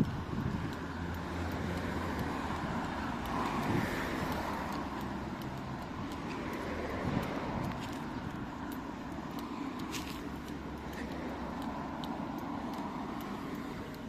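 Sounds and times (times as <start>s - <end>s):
passing vehicle road noise: 0.0s - 14.0s
vehicle engine humming: 0.0s - 14.0s.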